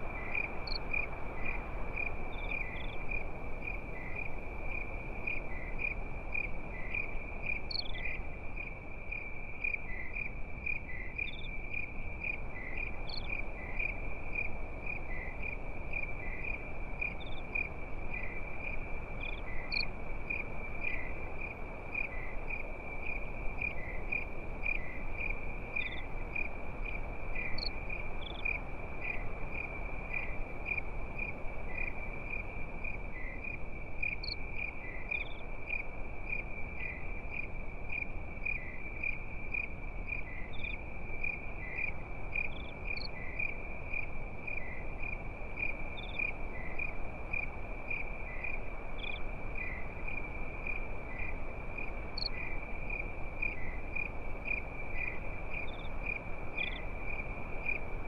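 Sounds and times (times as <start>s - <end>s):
crickets chirping: 0.0s - 58.0s
low steady hiss: 0.0s - 58.0s
higher insect chirp: 0.2s - 58.0s.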